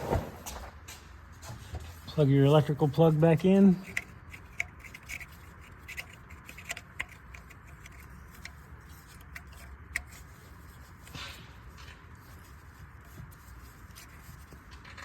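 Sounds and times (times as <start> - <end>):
rustle or scrape: 0.0 - 15.0
hands handling engine parts: 0.4 - 15.0.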